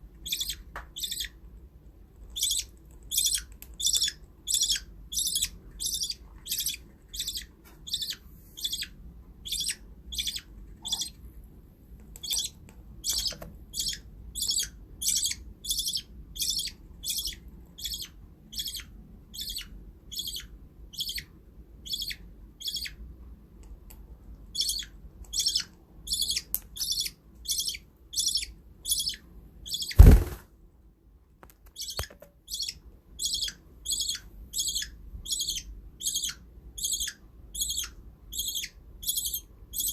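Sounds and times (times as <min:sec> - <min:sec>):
budgerigar chirping: 0:00.2 - 0:01.4, 0:02.3 - 0:11.2, 0:12.2 - 0:23.0, 0:24.5 - 0:30.2, 0:31.8 - 0:39.9.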